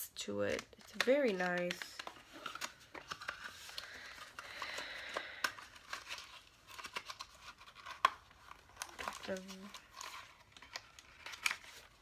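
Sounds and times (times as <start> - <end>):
soft packaging rustling: 0.2 - 12.0.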